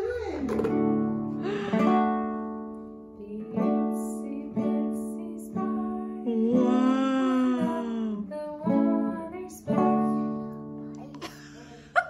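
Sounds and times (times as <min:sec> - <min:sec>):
acoustic guitar strumming chords: 0:00.4 - 0:11.2.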